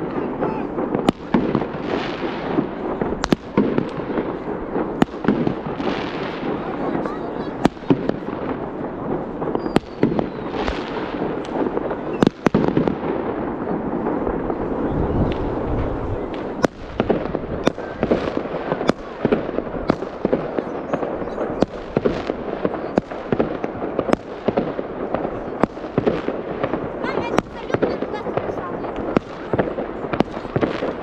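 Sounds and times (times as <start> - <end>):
din of fireworks: 0.0 - 31.0
fireworks sharp bangs: 0.0 - 31.0.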